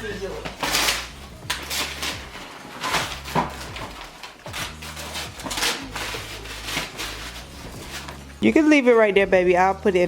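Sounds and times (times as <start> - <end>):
wrapping paper rustling and tearing: 0.0 - 8.4.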